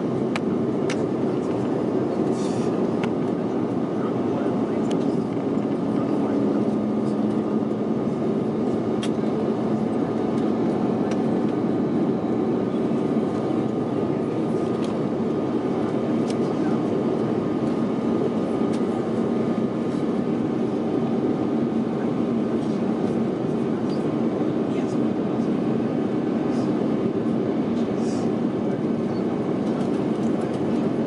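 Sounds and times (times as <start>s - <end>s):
airliner cabin engine hum: 0.0s - 31.0s.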